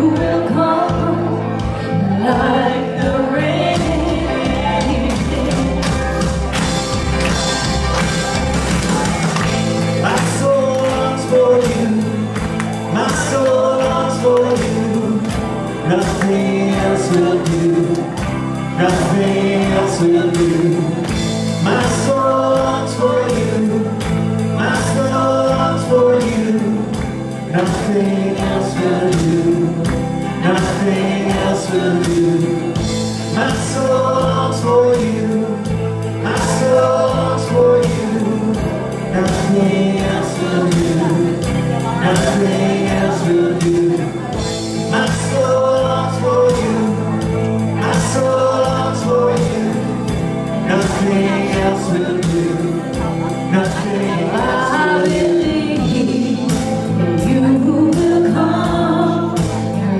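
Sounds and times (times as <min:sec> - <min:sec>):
band playing worship song: 0:00.0 - 0:59.9
singers singing: 0:00.0 - 0:59.9.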